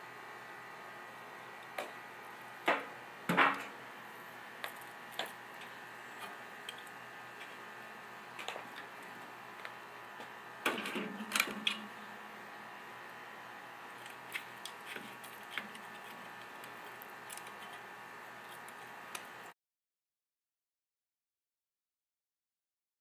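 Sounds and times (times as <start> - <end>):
faint steady hum: 0.0 - 19.6.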